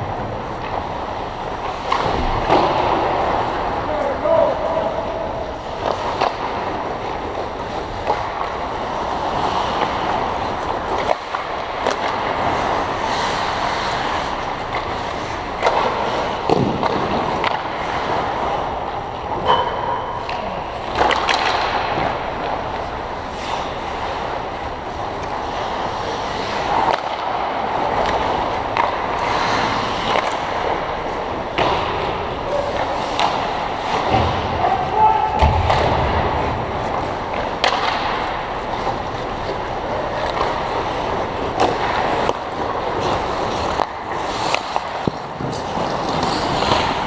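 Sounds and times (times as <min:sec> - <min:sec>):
hockey sticks and puck clacks: 0:00.0 - 0:47.0
skate blades scraping ice: 0:00.0 - 0:47.0.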